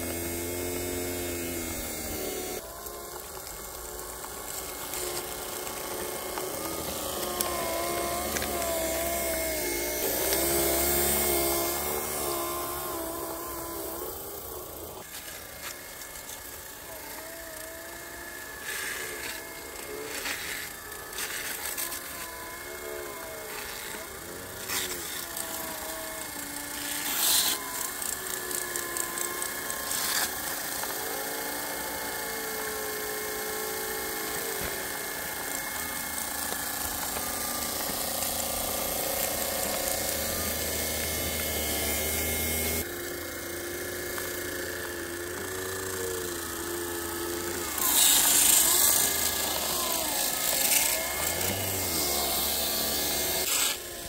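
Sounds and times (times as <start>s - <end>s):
model train motors whining: 0.0s - 54.0s.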